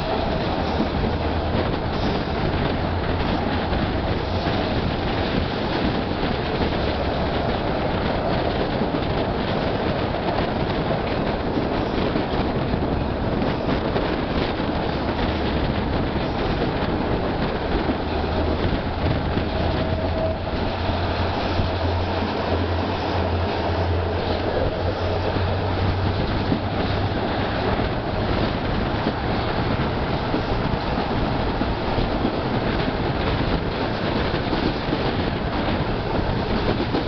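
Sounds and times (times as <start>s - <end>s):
train wheels rumbling and rattling: 0.0s - 37.0s.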